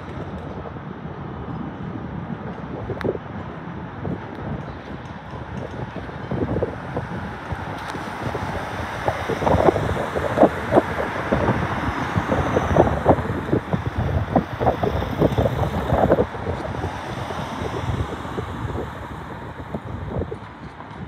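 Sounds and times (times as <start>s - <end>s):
wind buffeting microphone: 0.0s - 21.0s
cars driving past: 2.0s - 21.0s.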